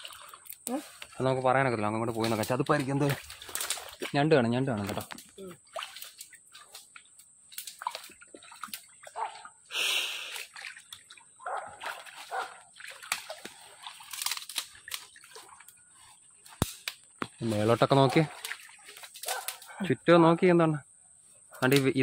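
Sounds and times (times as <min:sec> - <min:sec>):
footsteps splashing through mud: 0:00.0 - 0:19.8.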